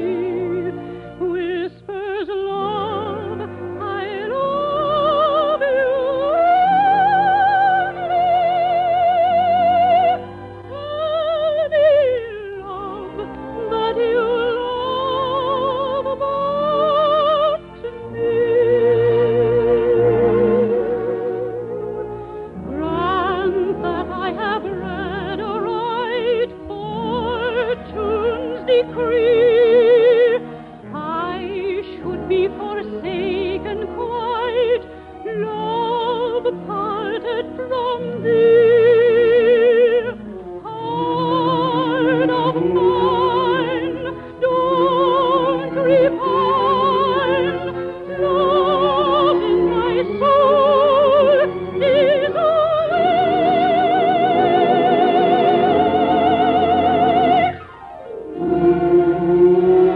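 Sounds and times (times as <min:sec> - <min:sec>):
operetta singing with vibrato: 0:00.0 - 0:59.9
orchestra playing: 0:00.0 - 0:59.9.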